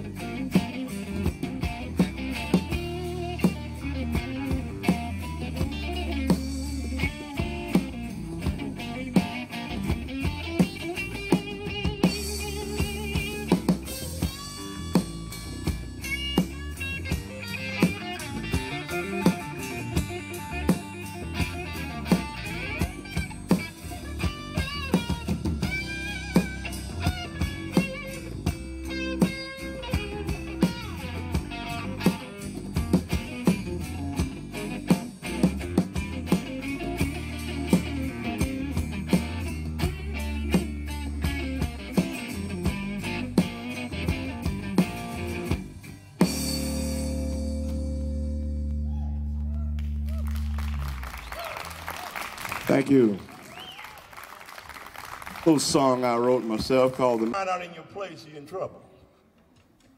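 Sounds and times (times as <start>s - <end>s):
drum kit: 0.0s - 48.8s, 54.8s - 57.4s
acoustic guitar: 0.0s - 48.9s
electric guitar: 0.0s - 57.2s
bass guitar: 0.0s - 57.4s.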